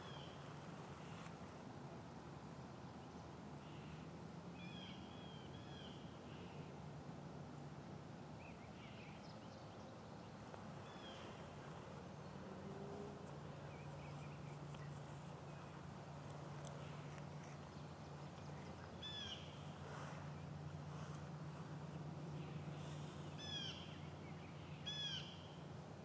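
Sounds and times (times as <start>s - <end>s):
steady hiss and low hum: 0.0s - 26.0s.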